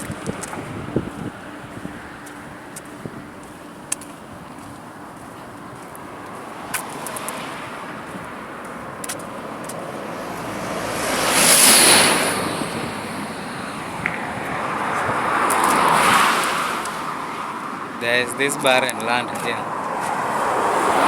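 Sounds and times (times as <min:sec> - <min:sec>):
car passing on highway: 0:00.0 - 0:21.0
vehicle approaching: 0:00.0 - 0:21.0.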